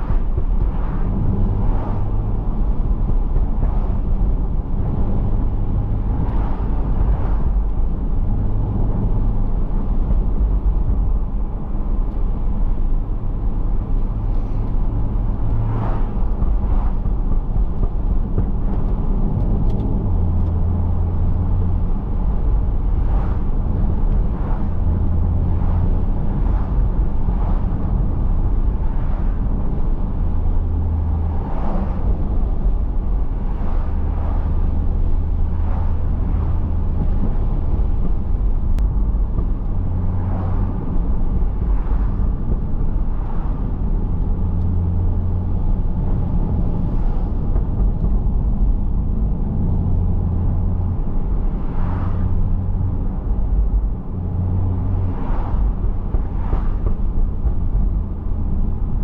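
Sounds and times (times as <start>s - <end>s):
car engine drone and road noise: 0.0s - 59.0s.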